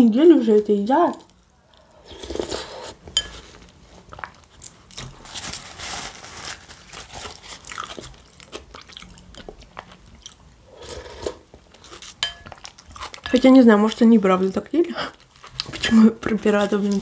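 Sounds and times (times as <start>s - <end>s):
chewing and crunching crisp food: 1.2s - 17.0s.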